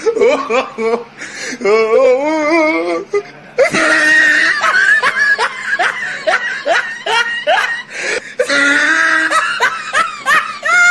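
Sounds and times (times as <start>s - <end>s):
person laughing: 0.0s - 10.9s.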